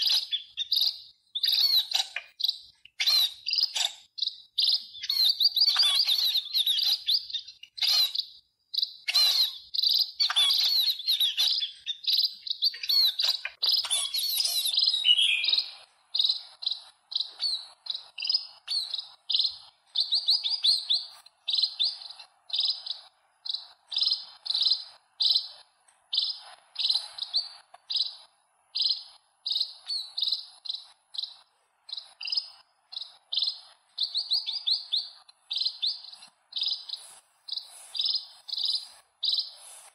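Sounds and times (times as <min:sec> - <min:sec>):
fledgling chirping: 0:00.0 - 0:39.9
flock of sparrows chirping: 0:00.0 - 0:39.9.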